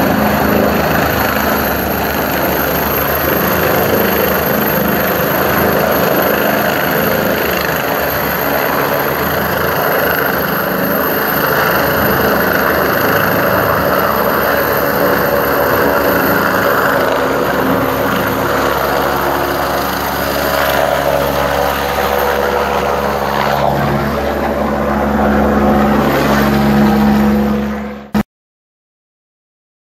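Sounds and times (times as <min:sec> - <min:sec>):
helicopter rotor and engine: 0:00.0 - 0:28.2.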